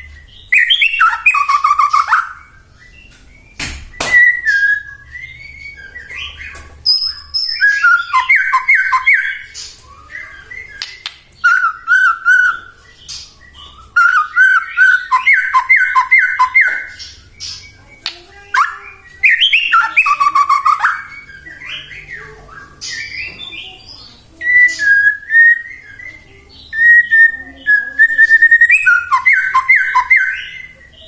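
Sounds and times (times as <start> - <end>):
songbird singing whistles and chips: 0.0 - 31.0.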